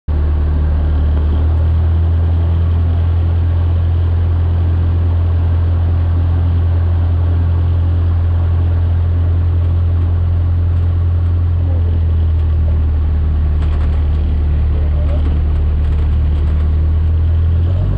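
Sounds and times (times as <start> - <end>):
airplane engine and propeller drone: 0.1 - 17.9.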